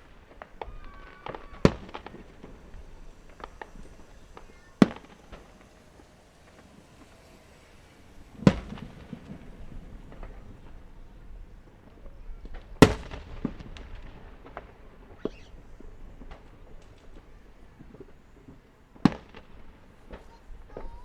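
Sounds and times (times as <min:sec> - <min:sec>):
firework pops and crackles: 0:00.0 - 0:21.0
loud firework bangs: 0:00.0 - 0:21.0.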